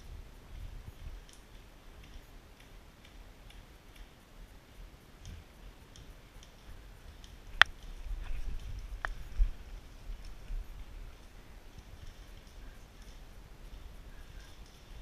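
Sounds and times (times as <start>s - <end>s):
faint irregular clicking: 0.5s - 15.0s.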